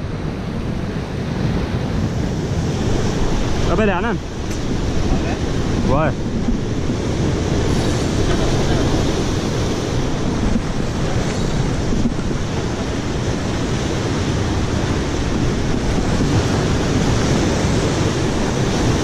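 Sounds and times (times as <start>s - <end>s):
surf breaking on rocks: 0.0s - 19.0s.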